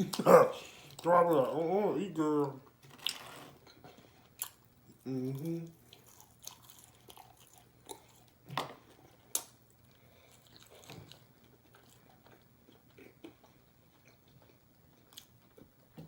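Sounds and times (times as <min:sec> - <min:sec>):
person chewing crunchy food: 0:02.9 - 0:15.8.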